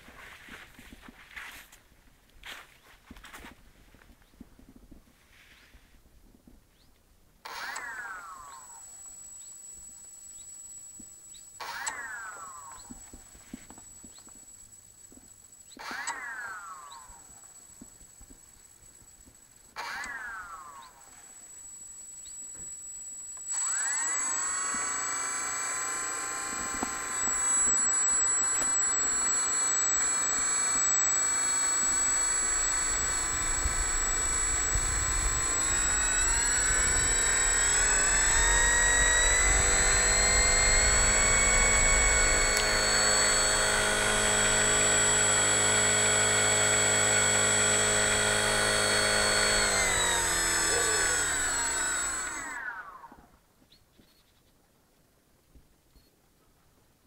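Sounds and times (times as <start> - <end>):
electric motor whine: 7.4 - 53.3.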